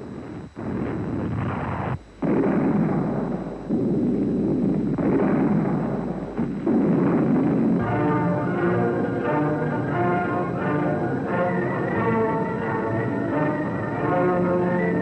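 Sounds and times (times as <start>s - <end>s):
artillery shell explosions: 0.6s - 15.0s.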